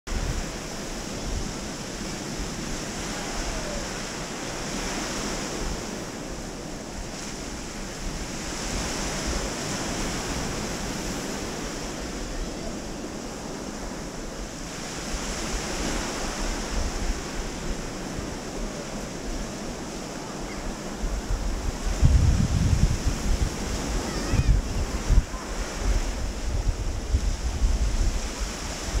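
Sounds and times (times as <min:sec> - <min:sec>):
small waves washing on sand: 0:00.1 - 0:29.0
wind buffeting microphone: 0:00.1 - 0:29.0.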